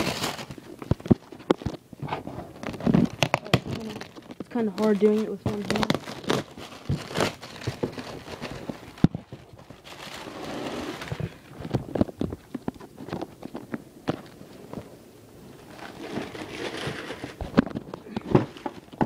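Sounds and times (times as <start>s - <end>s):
packaging rustling: 0.0s - 14.9s, 15.6s - 19.0s.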